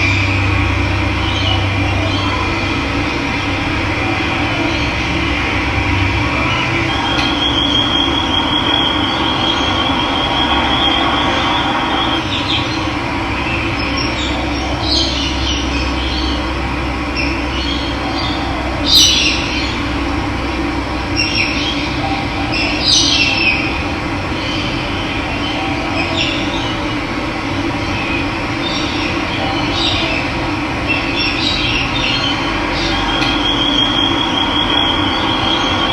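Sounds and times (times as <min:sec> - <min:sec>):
birds chirping and trilling: 0:00.0 - 0:20.2, 0:20.9 - 0:35.9.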